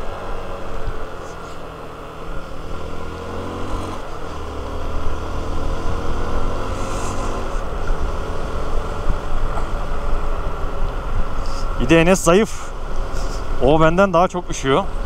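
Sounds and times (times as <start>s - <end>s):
motorcycle engine running: 0.0s - 15.0s
wind and road rush: 0.0s - 15.0s.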